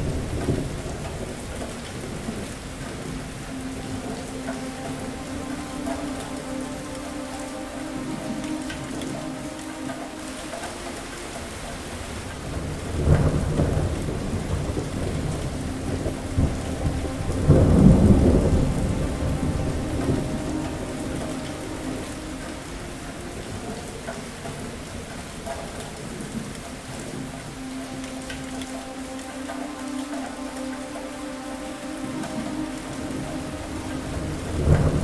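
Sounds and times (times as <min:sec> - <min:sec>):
thunder rumbling: 0:00.0 - 0:28.9, 0:31.7 - 0:35.0
steady rain: 0:00.0 - 0:35.0.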